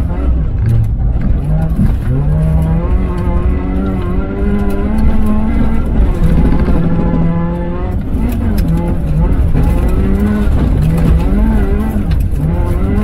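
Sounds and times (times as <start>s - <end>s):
rally car engine accelerating: 0.0s - 13.0s
tyre and gravel rumble: 0.0s - 13.0s.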